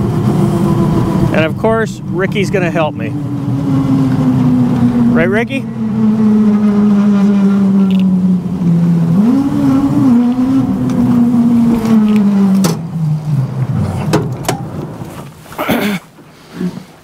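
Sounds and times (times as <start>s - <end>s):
small vehicle engine running: 0.0s - 14.6s.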